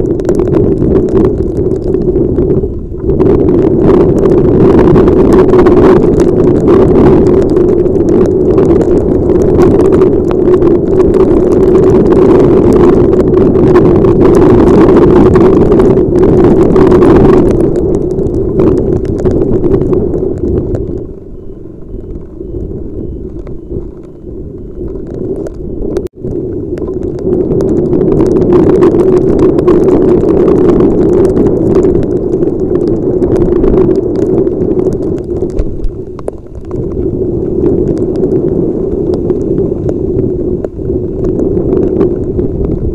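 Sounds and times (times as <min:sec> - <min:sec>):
wind and rain rushing: 0:00.0 - 0:42.9.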